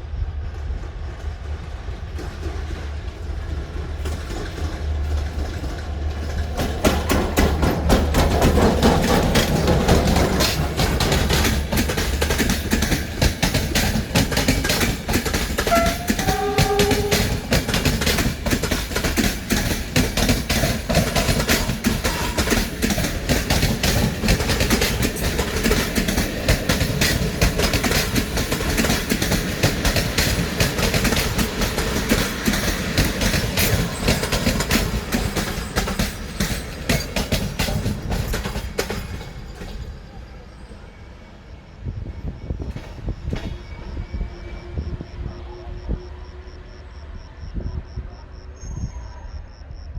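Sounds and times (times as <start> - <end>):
train wheels clattering on rails: 0.0 - 45.4.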